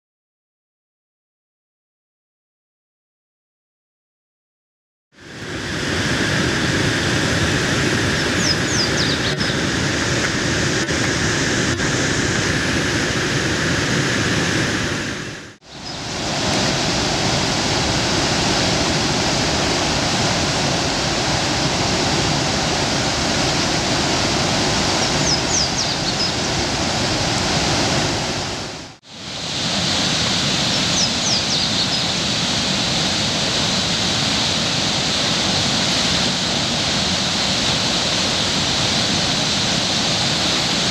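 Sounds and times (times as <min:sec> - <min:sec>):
whitewater rushing: 0:05.2 - 0:40.9.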